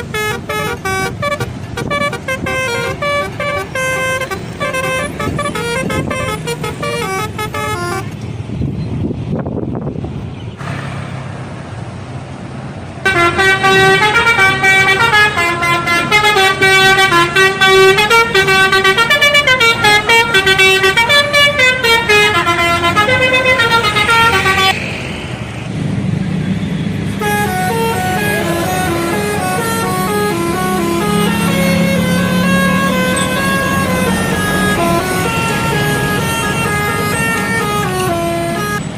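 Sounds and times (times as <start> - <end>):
bus horns playing a tune: 0.0 - 8.2, 13.0 - 24.8, 27.0 - 38.9
bus engine rumble: 0.0 - 38.9.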